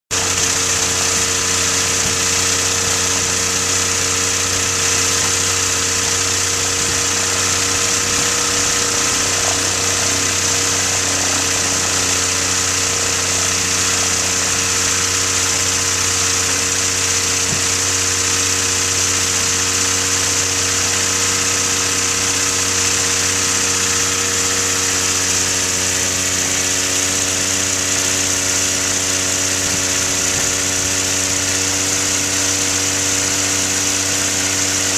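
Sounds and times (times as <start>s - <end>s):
light aircraft engine running: 0.1s - 34.9s.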